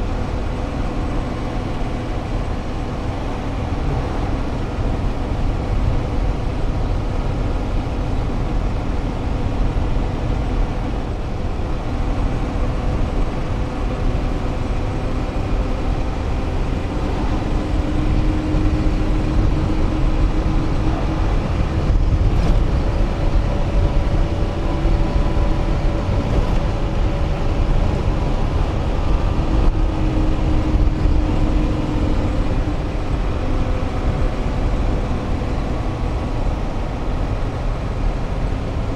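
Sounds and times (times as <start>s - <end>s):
engine hum: 0.0s - 38.9s
road rumble inside vehicle: 0.0s - 38.9s.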